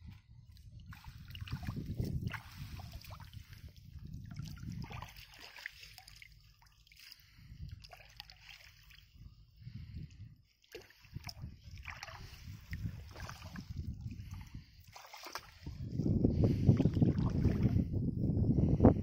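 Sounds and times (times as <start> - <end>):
shallow water splashing: 0.8 - 10.0, 10.6 - 17.9.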